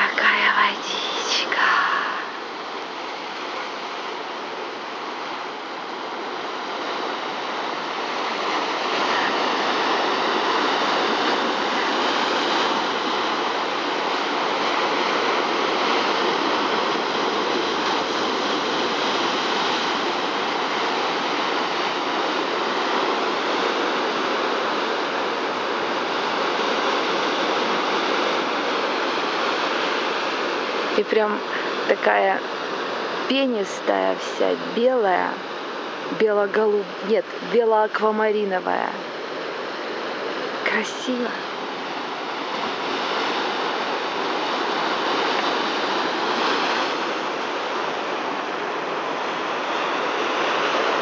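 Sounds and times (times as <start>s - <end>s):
sea surf breaking on rocks: 0.0s - 51.0s.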